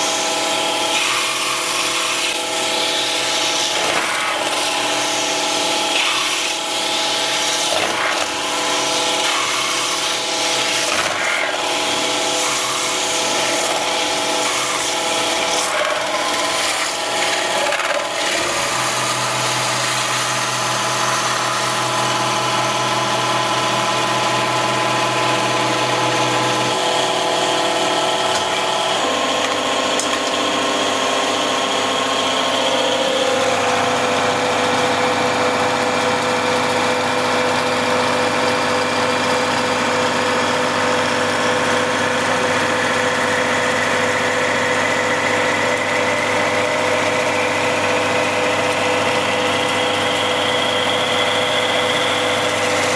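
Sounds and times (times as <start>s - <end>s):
machine whine: 0.0s - 52.9s.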